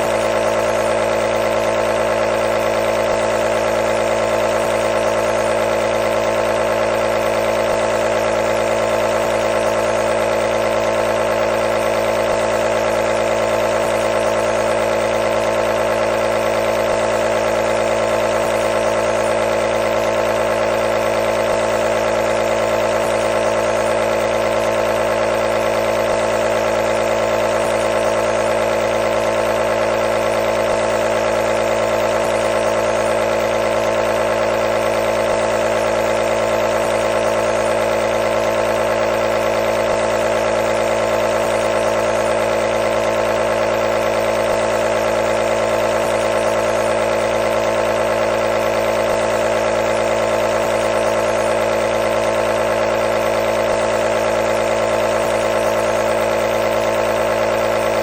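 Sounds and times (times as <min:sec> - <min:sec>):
compressor nebulizer hum: 0:00.0 - 0:58.0.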